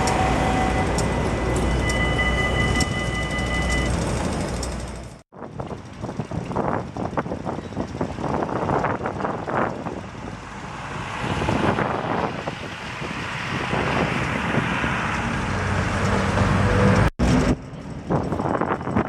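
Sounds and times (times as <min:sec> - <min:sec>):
tram approaching: 0:00.0 - 0:19.0.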